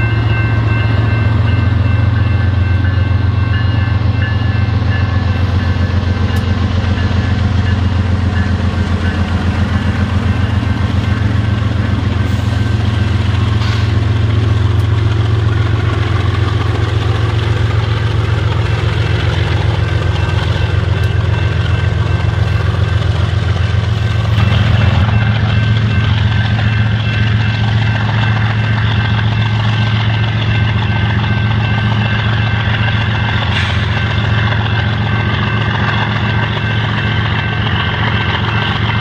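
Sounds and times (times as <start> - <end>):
crossing signal bell ringing: 0.0 - 39.0
diesel locomotive engines droning: 0.0 - 39.0.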